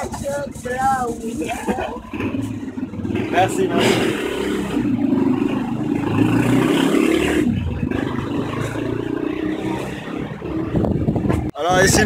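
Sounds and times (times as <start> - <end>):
street noise: 0.0 - 12.0
vehicle engine running: 0.0 - 12.0.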